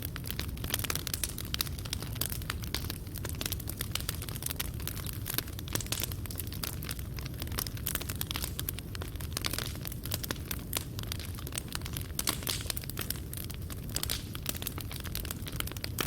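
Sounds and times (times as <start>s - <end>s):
burning wood popping: 0.0s - 16.0s
fireplace fire crackling: 0.0s - 16.0s.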